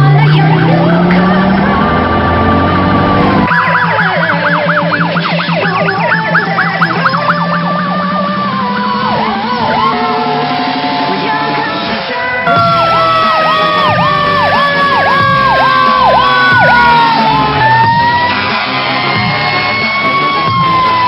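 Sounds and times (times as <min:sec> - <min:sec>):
fire truck sirens wailing and yelping: 0:00.0 - 0:21.0
low rising tone: 0:00.0 - 0:21.0.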